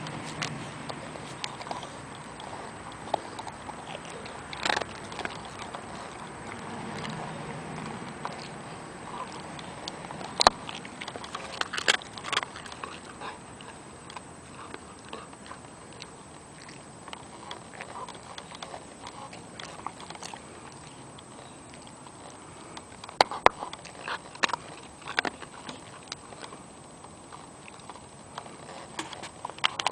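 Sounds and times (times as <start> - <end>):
dog crunching a biscuit: 0.0 - 29.9
dog sniffing: 0.0 - 29.9.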